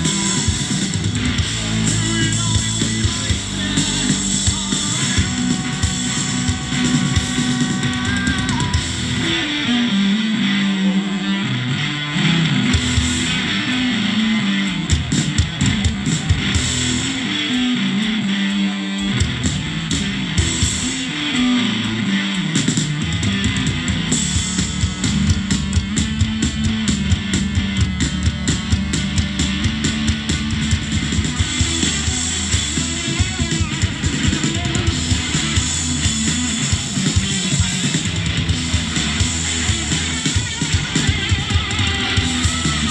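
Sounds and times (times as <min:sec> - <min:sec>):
bass guitar riff: 0:00.0 - 0:42.9
distorted electric guitar: 0:00.0 - 0:42.9
drums: 0:00.0 - 0:42.9.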